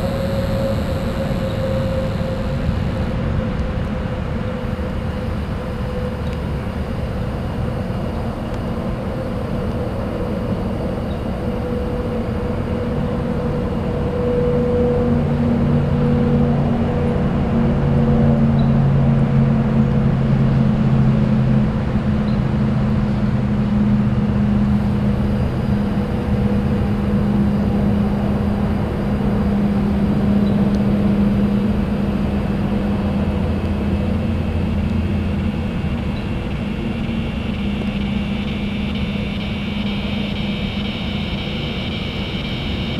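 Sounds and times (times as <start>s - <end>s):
droning engine hum: 0.0s - 42.9s
road traffic rumble: 0.0s - 42.9s.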